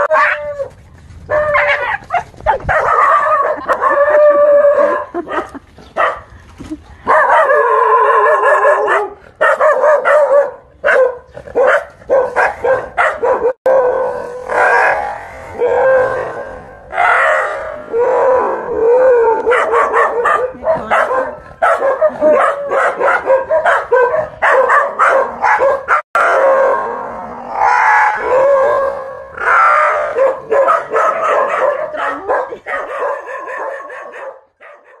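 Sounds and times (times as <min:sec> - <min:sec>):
dogs wavering cries: 0:00.0 - 0:00.7, 0:01.3 - 0:06.2, 0:07.0 - 0:35.0
dogs barking: 0:01.3 - 0:06.3, 0:07.0 - 0:15.7, 0:19.4 - 0:26.8, 0:27.6 - 0:35.0.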